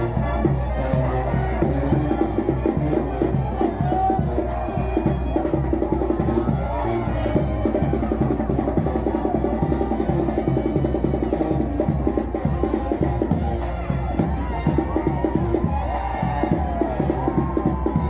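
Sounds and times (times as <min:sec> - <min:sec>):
bass line: 0:00.0 - 0:18.0
drum beat: 0:00.0 - 0:18.0.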